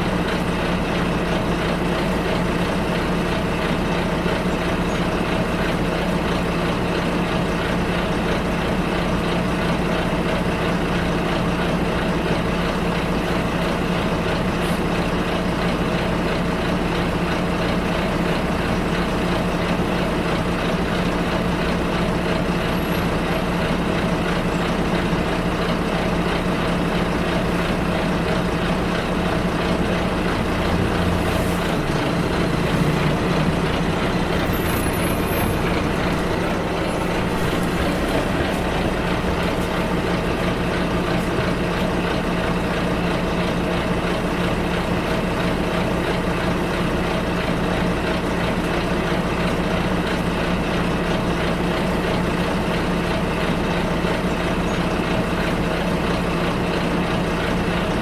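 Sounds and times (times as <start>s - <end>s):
bus engine and road noise: 0.0s - 58.0s.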